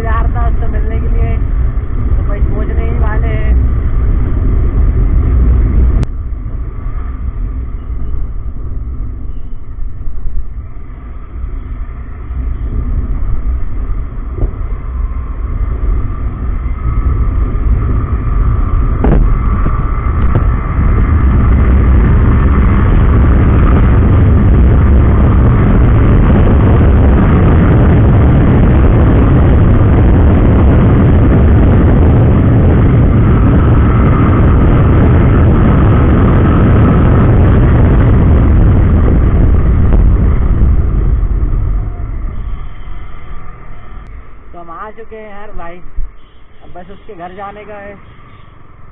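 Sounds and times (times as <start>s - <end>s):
road and engine noise: 0.0s - 48.9s
wind buffeting microphone: 0.0s - 48.9s.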